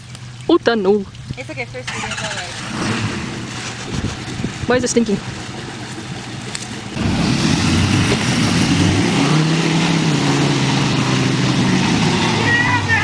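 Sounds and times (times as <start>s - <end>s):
heavy vehicle engine running: 1.4s - 13.0s.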